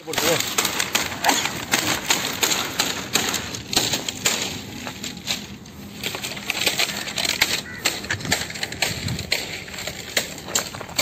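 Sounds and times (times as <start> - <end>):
dry palm fronds crackling: 0.0 - 11.0.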